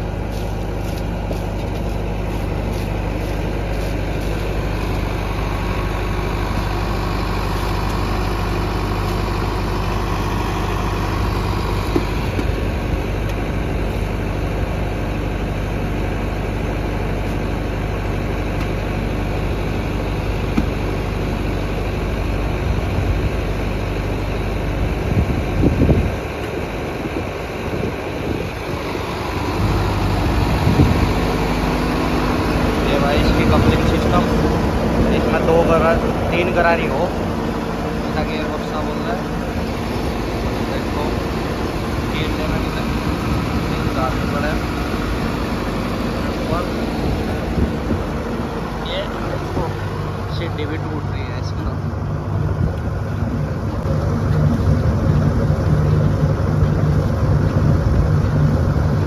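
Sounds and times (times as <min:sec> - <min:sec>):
loud rumbling noise: 0:00.0 - 0:59.0
tractor diesel engine running: 0:00.0 - 0:59.0.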